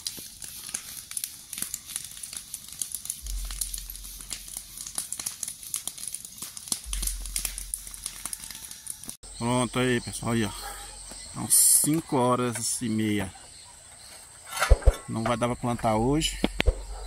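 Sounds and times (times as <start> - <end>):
brush fire crackling and popping: 0.0 - 17.0.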